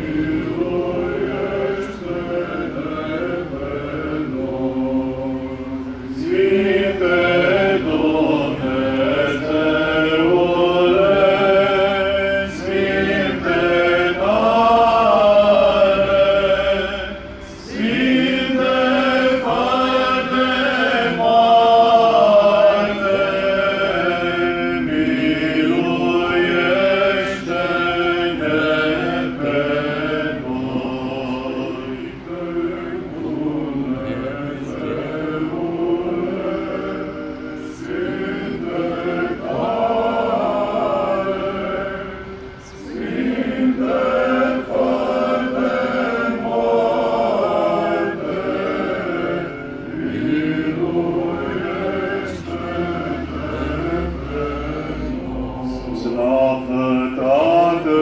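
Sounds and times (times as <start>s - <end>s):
voices singing liturgical chant: 0.0s - 58.0s.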